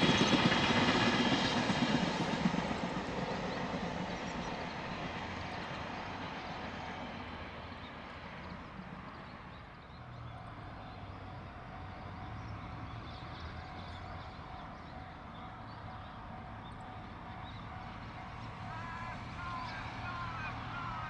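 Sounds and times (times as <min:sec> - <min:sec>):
distant freight train rumbling: 0:00.0 - 0:21.0.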